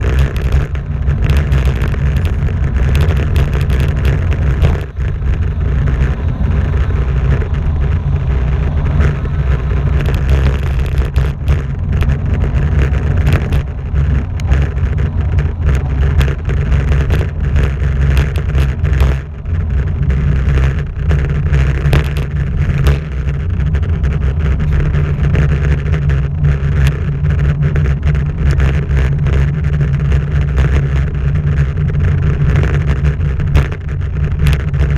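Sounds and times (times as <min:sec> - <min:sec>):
road noise: 0:00.0 - 0:34.9
wind buffeting microphone: 0:00.0 - 0:34.9.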